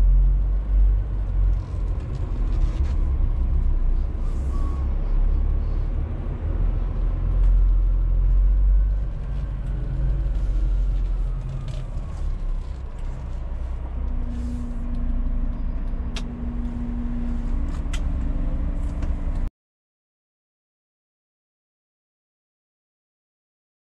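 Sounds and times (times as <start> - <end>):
truck diesel engine rumbling: 0.0 - 19.5.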